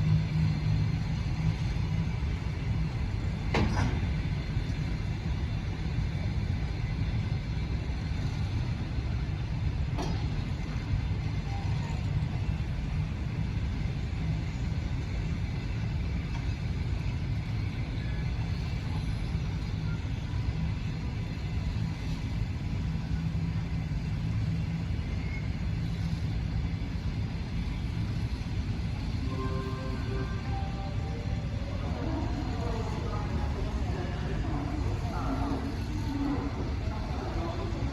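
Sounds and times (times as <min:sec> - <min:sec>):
passenger train rumbling: 0:00.0 - 0:37.9.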